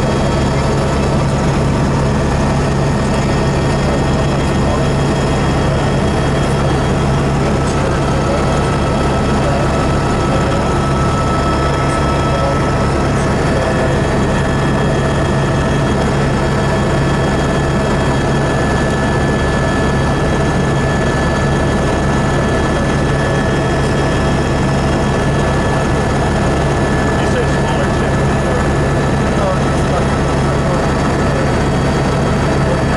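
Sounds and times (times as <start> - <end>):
helicopter engine and rotors drone: 0.0 - 32.9.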